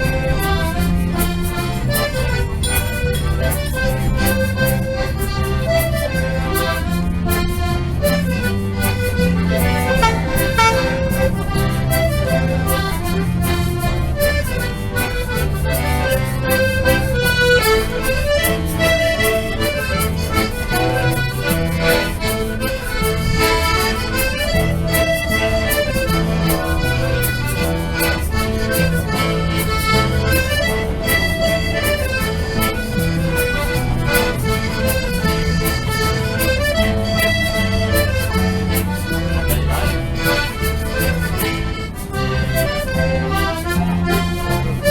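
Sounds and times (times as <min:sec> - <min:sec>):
accordion dance tune: 0:00.0 - 0:44.9.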